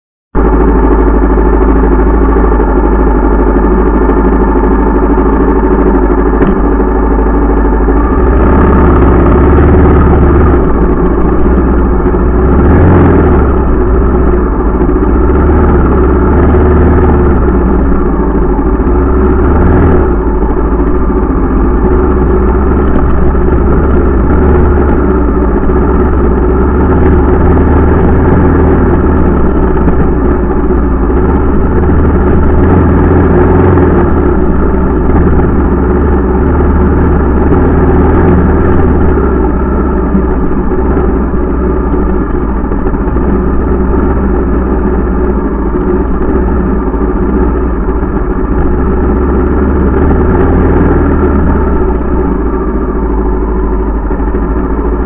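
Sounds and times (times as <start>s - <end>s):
dirt bike engine running: 0.4s - 55.0s.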